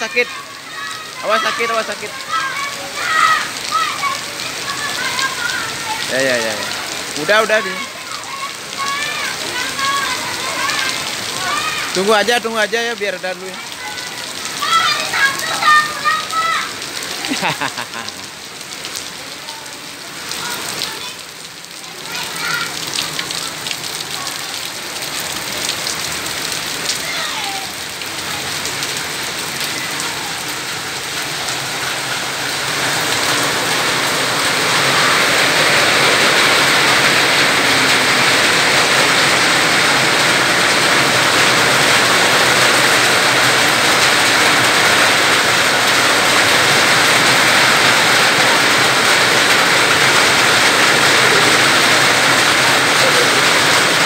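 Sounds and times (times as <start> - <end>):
heavy rain on paving and roofs: 0.0 - 54.0.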